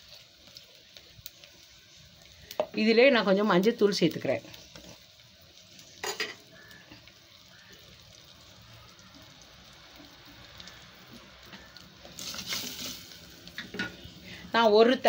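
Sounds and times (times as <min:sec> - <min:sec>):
spices sizzling in oil: 0:00.0 - 0:15.0.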